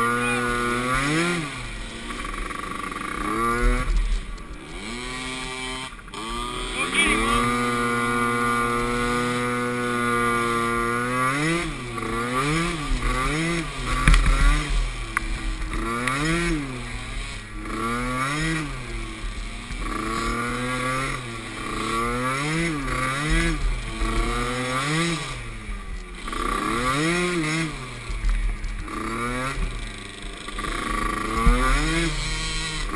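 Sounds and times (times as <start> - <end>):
atv engine revving: 0.0 - 32.9.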